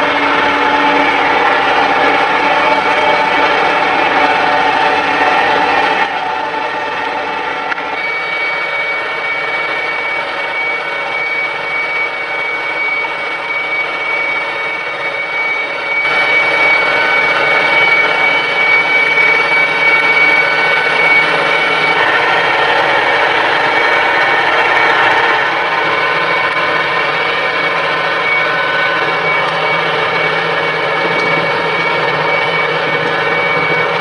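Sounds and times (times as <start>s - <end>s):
farm machinery engine running: 0.0s - 34.0s
high steady whine: 0.0s - 34.0s.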